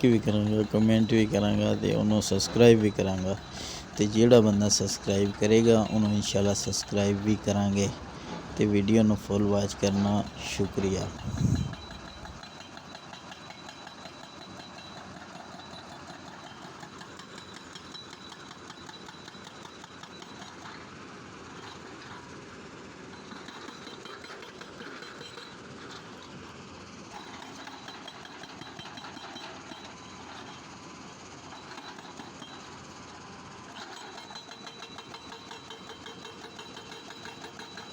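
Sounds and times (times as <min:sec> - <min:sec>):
hydraulic rock breaker hammering stone: 0:00.0 - 0:26.5, 0:27.1 - 0:37.9.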